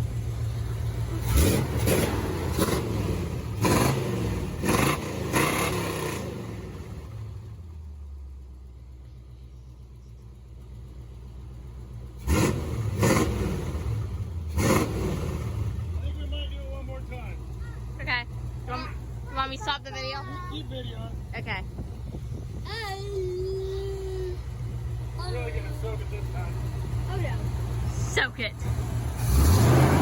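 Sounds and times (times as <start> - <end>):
engine throttle blips: 0.0 - 30.0
truck engine idling: 0.0 - 30.0.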